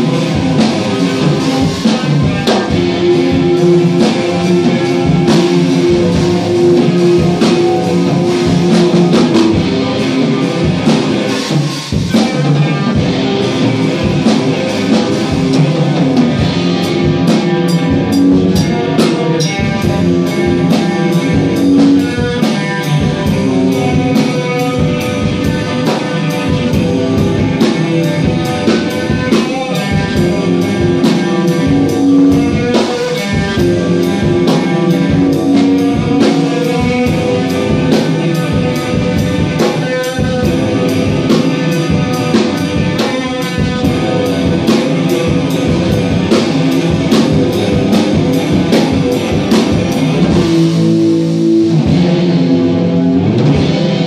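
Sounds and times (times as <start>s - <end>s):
drum kit playing rock: 0.0s - 54.0s
electric guitar: 0.0s - 54.0s.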